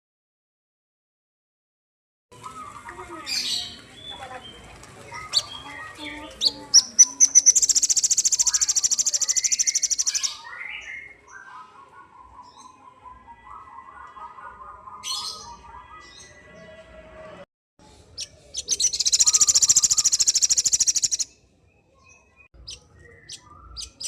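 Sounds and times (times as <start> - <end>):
songbird chirping and trilling: 2.4 - 24.0.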